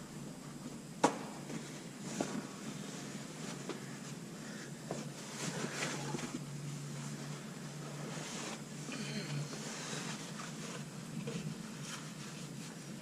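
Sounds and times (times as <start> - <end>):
low steady hum: 0.0 - 13.0
rustling: 1.4 - 13.0.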